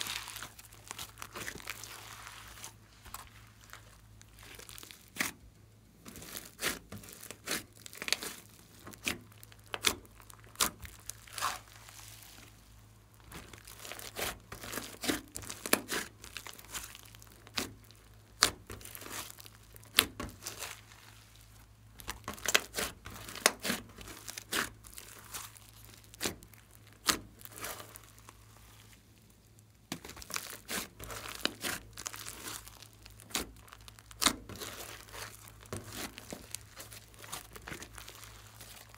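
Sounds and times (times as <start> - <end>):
slime crackling and squelching: 0.0 - 38.9.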